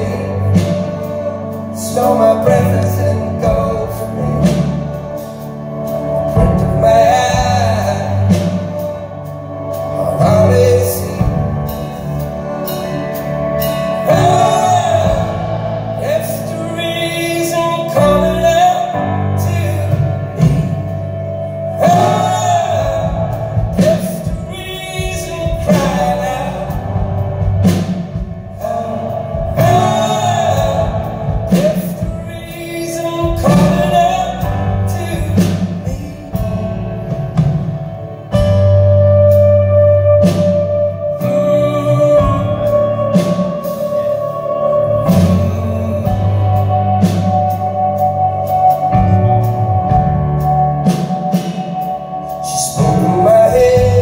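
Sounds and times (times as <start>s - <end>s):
live band playing slow song: 0.0s - 54.0s
person singing drawn-out notes: 0.0s - 54.0s.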